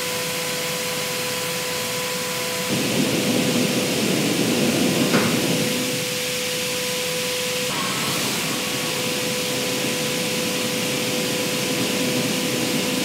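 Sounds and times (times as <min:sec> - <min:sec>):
constant hum: 0:00.6 - 0:13.0.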